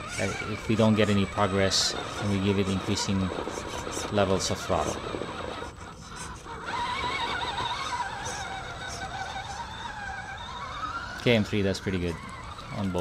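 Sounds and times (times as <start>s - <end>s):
electric motor and gearbox whine: 0.0s - 13.0s.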